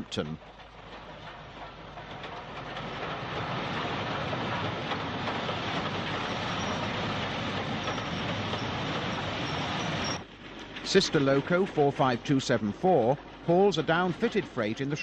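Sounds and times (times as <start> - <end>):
steam train rushing past: 0.0 - 15.0.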